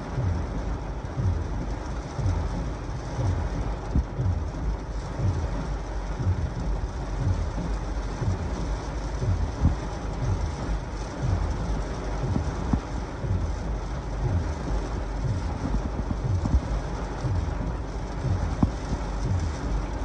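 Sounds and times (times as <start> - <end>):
heavy rain on car roof: 0.0 - 20.0
windshield wipers swooshing: 0.0 - 20.0.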